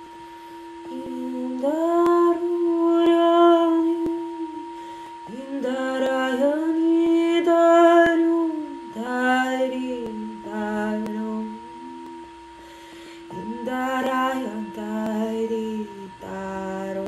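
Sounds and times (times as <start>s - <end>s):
singing bowl ringing: 0.0s - 17.0s
woman singing wordless tones: 0.0s - 17.0s.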